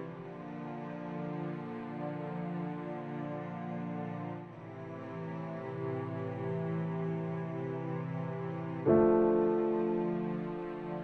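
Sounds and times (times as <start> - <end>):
slow sustained chords music: 0.0 - 11.0.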